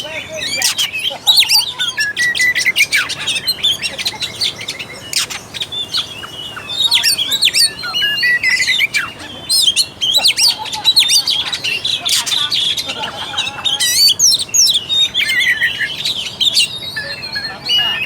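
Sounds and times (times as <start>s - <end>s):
bird singing whistles and chirps: 0.0s - 18.0s.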